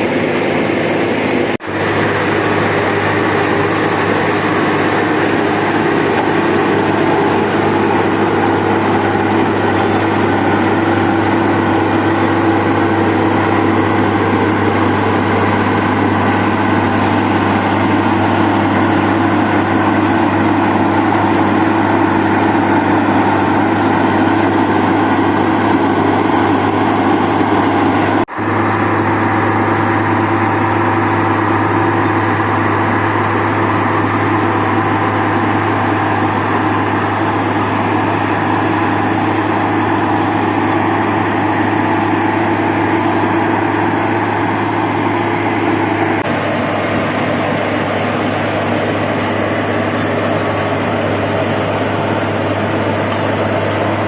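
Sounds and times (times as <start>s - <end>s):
milling machine running: 0.0s - 54.0s.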